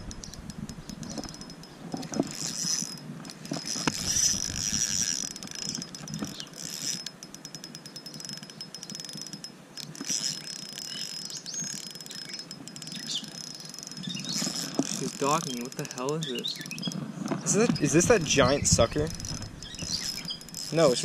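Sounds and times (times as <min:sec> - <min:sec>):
fishing reel ticking whir: 0:00.0 - 0:21.0.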